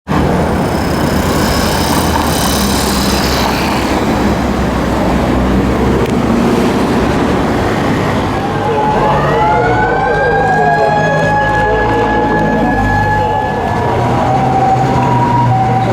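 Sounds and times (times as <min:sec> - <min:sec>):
road traffic rumble: 0:00.1 - 0:15.9.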